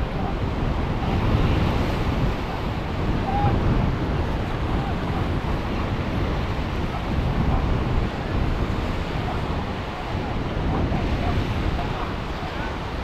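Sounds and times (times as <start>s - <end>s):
ocean waves and surf: 0.0s - 13.0s
wind buffeting microphone: 0.0s - 13.0s.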